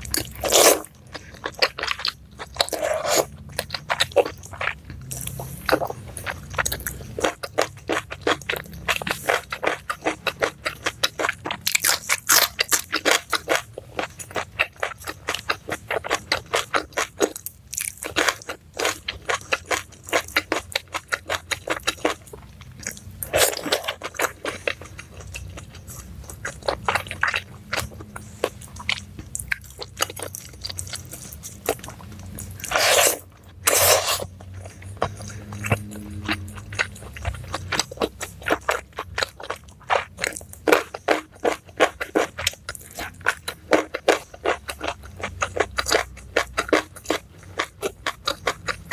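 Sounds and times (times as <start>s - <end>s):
crisp chewing and crunching: 0.0s - 48.9s.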